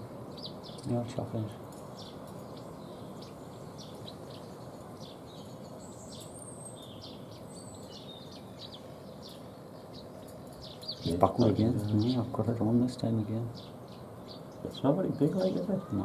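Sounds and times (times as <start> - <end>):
songbirds chirping: 0.0 - 16.0
steady background hiss: 0.0 - 16.0.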